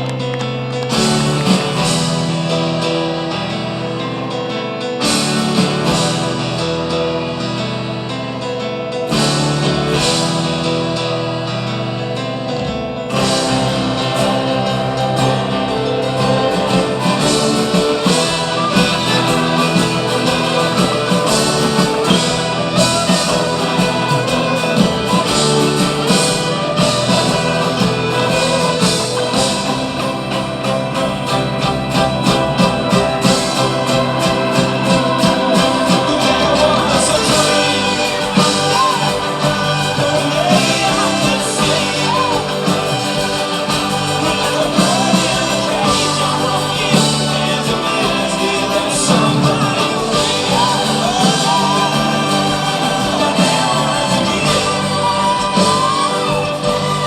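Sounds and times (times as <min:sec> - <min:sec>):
folk-rock band playing: 0:00.0 - 0:57.0
strummed acoustic guitar: 0:00.0 - 0:57.0
person singing: 0:09.1 - 0:57.0.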